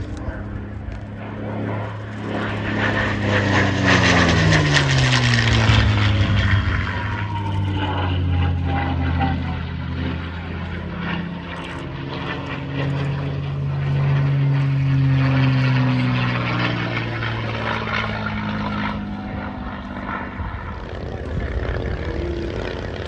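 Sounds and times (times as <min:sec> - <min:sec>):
propeller plane engine passing: 0:00.0 - 0:23.0.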